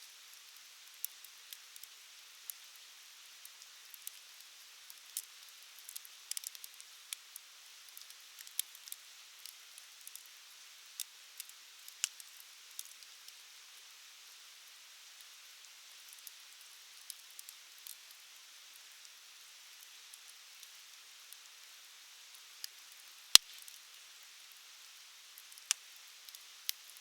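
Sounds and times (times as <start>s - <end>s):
wood fire crackling and hissing: 0.0s - 27.0s.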